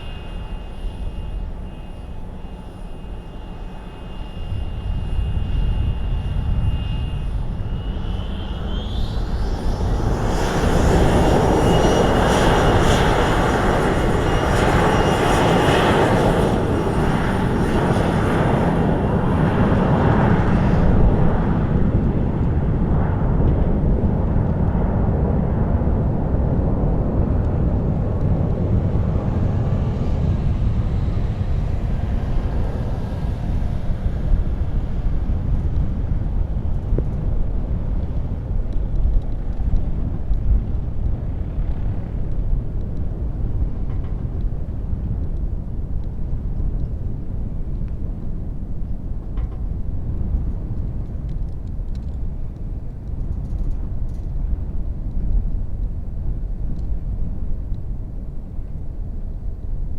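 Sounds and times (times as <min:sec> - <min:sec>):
high turbine whine: 0:00.0 - 0:59.9
loud jet engine noise: 0:00.0 - 0:59.9
wind buffeting microphone: 0:00.0 - 0:59.9.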